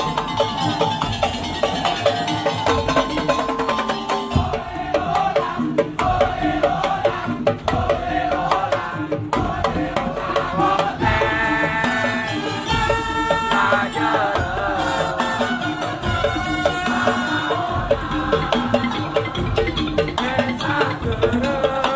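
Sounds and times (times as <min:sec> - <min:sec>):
music with fast percussion: 0:00.0 - 0:21.9.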